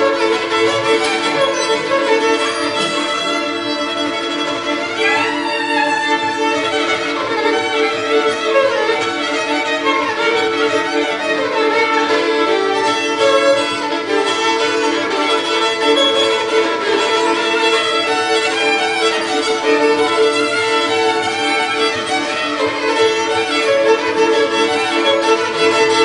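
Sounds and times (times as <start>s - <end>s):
violins playing folk tune: 0.0s - 26.0s.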